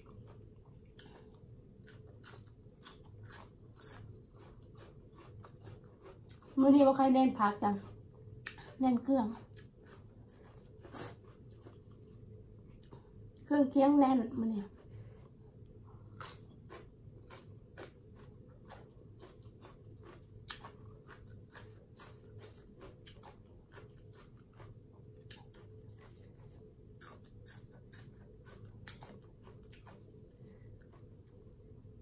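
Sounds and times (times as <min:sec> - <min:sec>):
wet chewing and crunching: 0:00.0 - 0:06.6, 0:07.6 - 0:13.5, 0:14.7 - 0:32.0
faint steady hum: 0:00.0 - 0:32.0.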